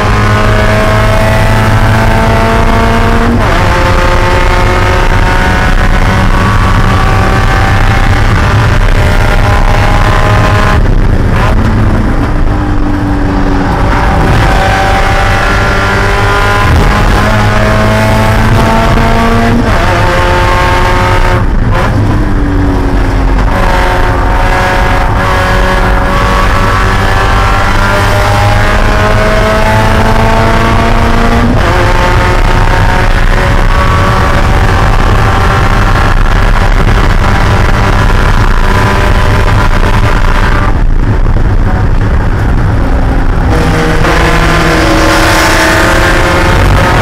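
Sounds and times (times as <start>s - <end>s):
race car engine revving: 0.0s - 47.0s.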